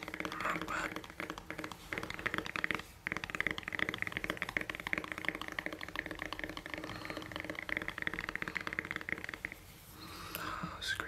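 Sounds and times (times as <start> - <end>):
fingernails tapping on a phone: 0.0 - 9.6.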